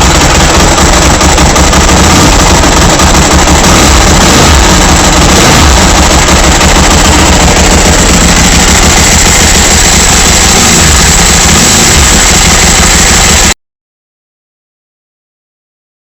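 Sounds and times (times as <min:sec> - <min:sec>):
loud motorcycle engine running: 0:00.0 - 0:13.6.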